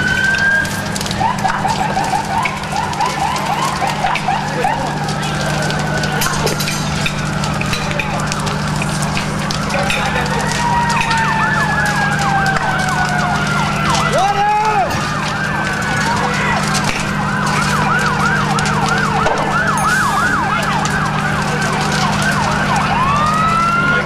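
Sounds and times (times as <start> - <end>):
sirens yelping and wailing: 0.0 - 24.0.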